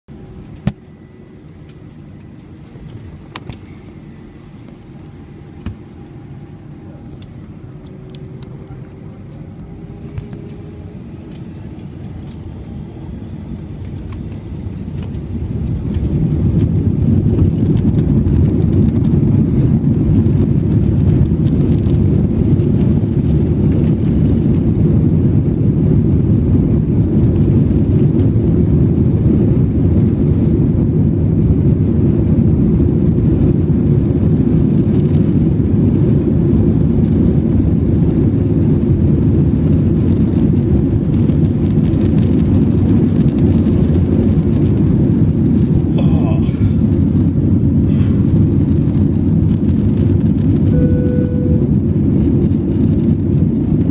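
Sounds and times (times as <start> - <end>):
jet engines rumbling in cabin: 0.1 - 53.9.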